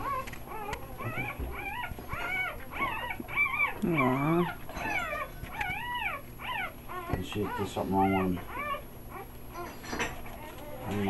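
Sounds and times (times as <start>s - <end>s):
puppy moaning: 0.0s - 11.0s
puppy whimpering cries: 0.0s - 11.0s.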